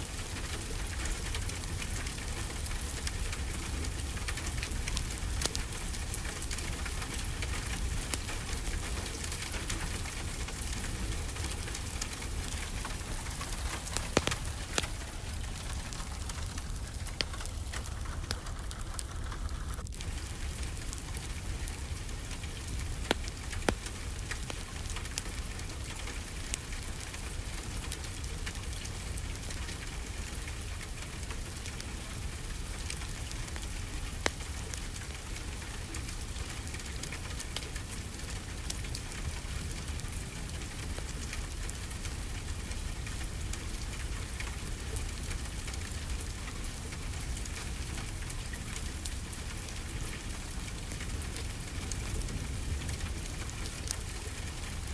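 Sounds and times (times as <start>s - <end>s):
low constant rumble: 0.0s - 54.9s
steady rain falling: 0.0s - 54.9s
wood fire crackling pops: 0.0s - 54.9s.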